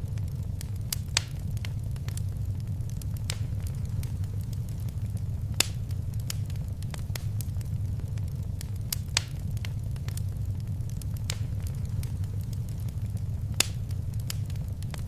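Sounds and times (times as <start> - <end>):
low rumble of fire: 0.0 - 15.0
sharp fire pops: 0.0 - 15.0
wood fire crackling: 0.0 - 15.0.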